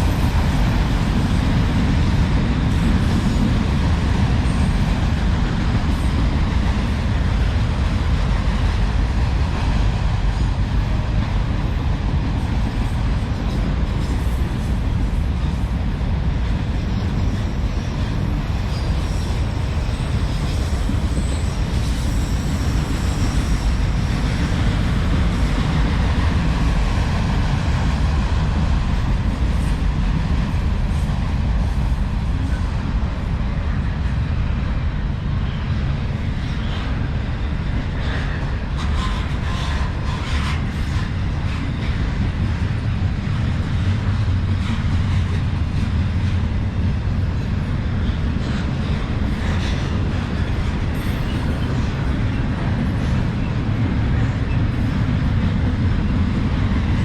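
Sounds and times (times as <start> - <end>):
train wheel squeal: 0.0 - 15.7, 16.4 - 57.0
train clicking: 0.0 - 57.0
train wheels rumbling on rail: 0.0 - 57.0.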